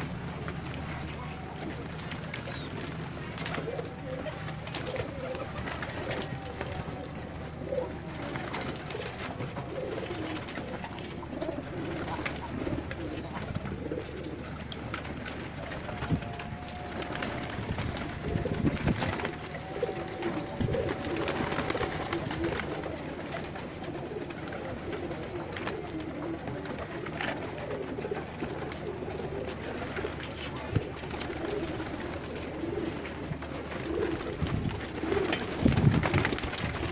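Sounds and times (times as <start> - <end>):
pigeons cooing: 0.0 - 36.9
wings flapping: 0.0 - 36.9.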